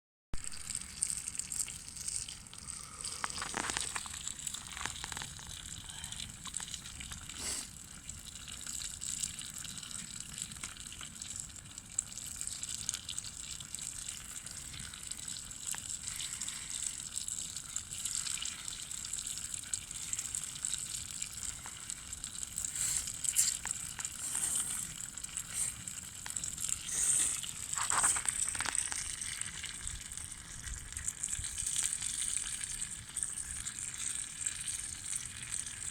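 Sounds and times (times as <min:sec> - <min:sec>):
fire pops and crackles: 0:00.4 - 0:35.9
food sizzling over campfire: 0:00.4 - 0:35.9.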